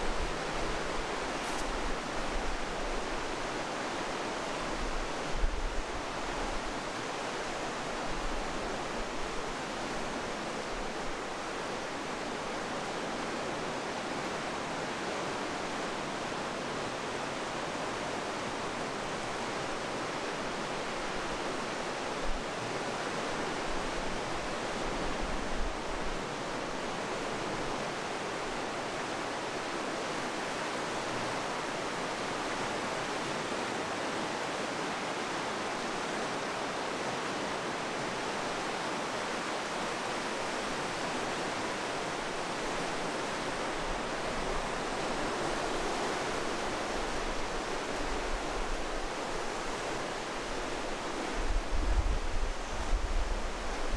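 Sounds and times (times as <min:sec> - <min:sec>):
river rushing through gorge: 0:00.0 - 0:53.9.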